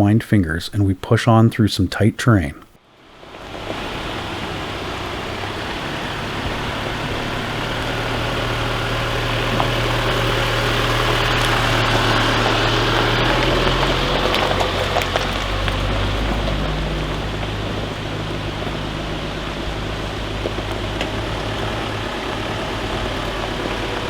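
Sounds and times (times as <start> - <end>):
low engine hum: 2.8 - 24.0
tyre noise on gravel: 3.2 - 24.0.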